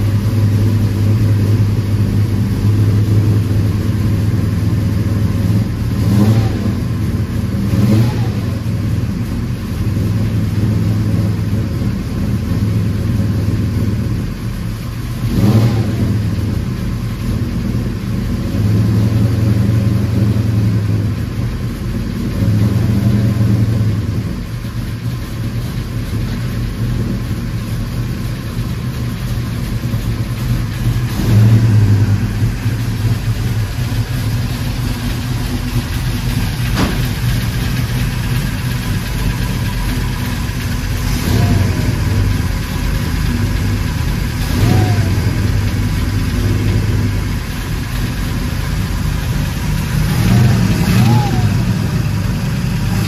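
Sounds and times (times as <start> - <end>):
vee eight engine idling: 0.0 - 53.0.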